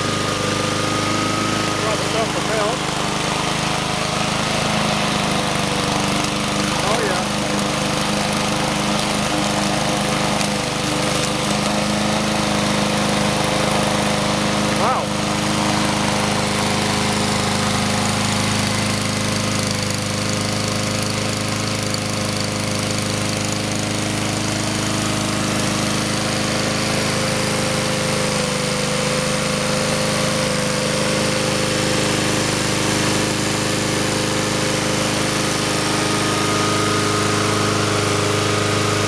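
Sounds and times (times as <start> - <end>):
lawn mower engine running: 0.0 - 39.0.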